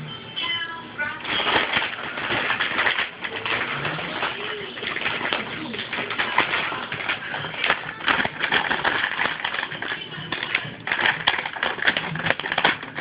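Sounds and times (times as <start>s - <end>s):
plastic bag crinkling: 1.2s - 13.0s.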